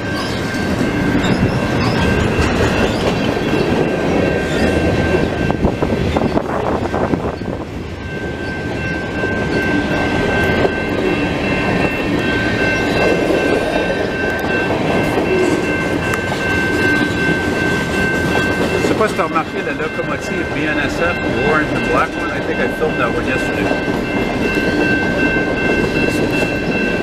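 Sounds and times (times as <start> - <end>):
freight train rumbling: 0.0 - 27.0
high-pitched tones: 0.0 - 27.0.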